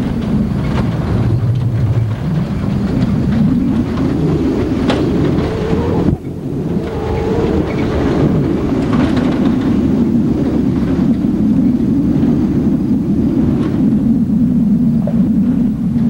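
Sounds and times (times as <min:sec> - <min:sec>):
rattles: 0:00.0 - 0:13.8
truck driving on gravel: 0:00.0 - 0:14.1.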